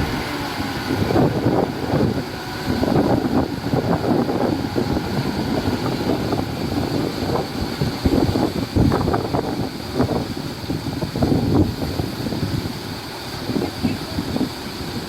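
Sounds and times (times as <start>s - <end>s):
diesel earthmoving machinery rumbling: 0.0s - 15.0s
wind buffeting microphone: 0.0s - 15.0s.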